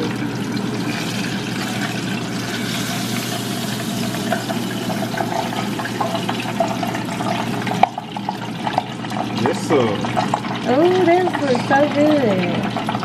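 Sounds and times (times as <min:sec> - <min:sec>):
hot oil sizzling in a fryer: 0:00.0 - 0:13.0.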